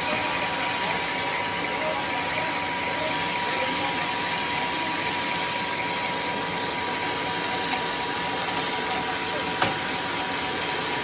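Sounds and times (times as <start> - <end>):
high machine whine: 0.0 - 11.0
sawmill machine whirring: 0.0 - 11.0.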